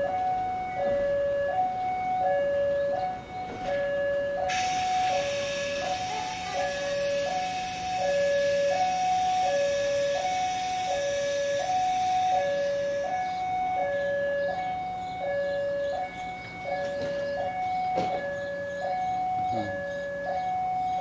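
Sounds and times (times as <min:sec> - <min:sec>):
level crossing two-tone alarm: 0:00.0 - 0:21.0.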